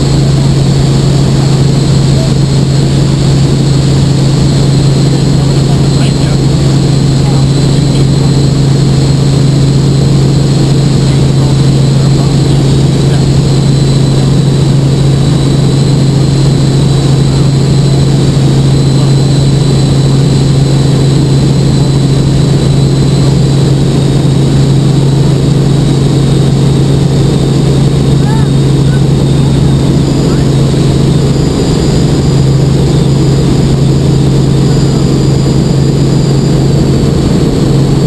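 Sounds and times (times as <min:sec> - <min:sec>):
helicopter engine and rotors droning: 0:00.0 - 0:38.0.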